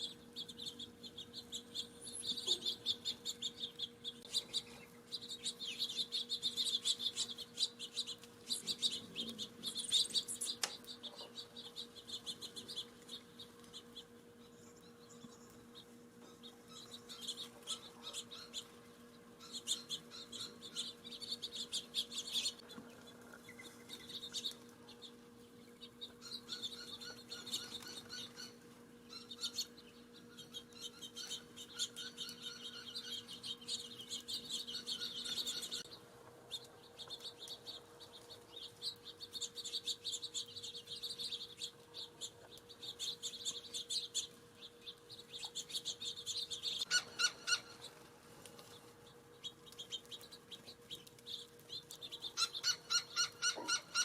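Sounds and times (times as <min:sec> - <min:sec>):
faint steady hum: 0:00.0 - 0:54.0
songbirds chirping: 0:00.0 - 0:54.0.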